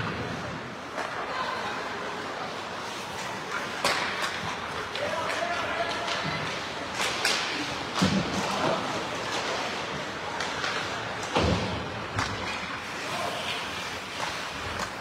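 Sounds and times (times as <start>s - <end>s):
ice rink noise: 0.0s - 15.0s
spectators chattering: 0.0s - 15.0s.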